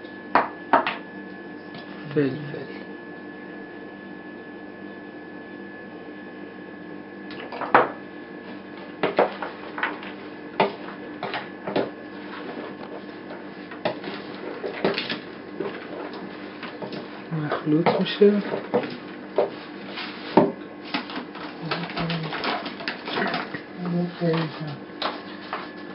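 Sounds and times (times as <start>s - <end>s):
electrical hum: 0.0s - 25.9s.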